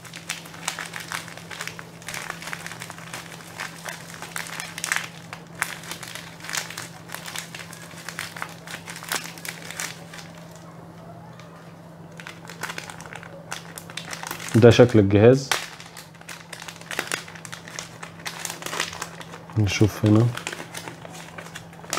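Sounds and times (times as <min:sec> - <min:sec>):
bubble wrap crackling: 0:00.0 - 0:10.8, 0:12.1 - 0:21.9.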